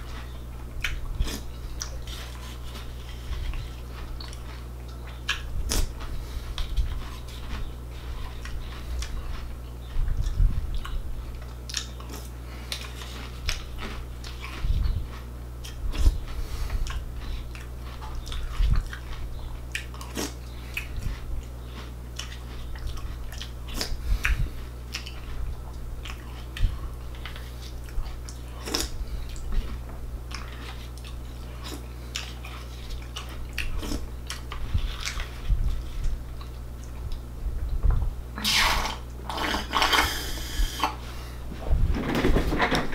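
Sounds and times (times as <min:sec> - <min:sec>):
person chewing crunchy cereal: 0:00.0 - 0:37.3
steady low hum: 0:00.0 - 0:42.9.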